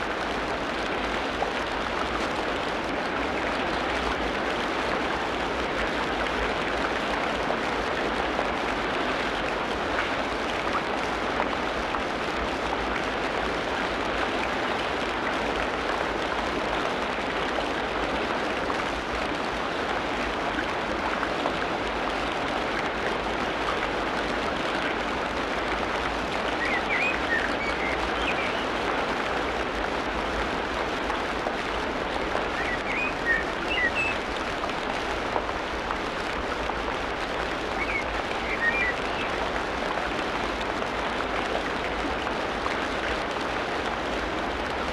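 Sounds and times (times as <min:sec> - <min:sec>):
rain pattering on foliage: 0:00.0 - 0:44.9.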